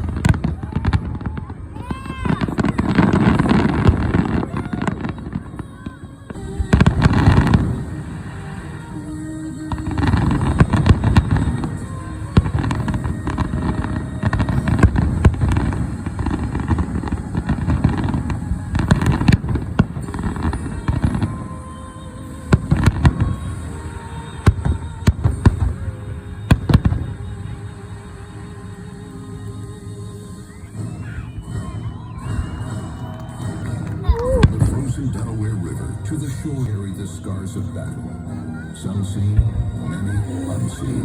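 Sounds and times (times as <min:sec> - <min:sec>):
fireworks booms and cracks: 0:00.0 - 0:41.0
music playing: 0:00.0 - 0:41.0.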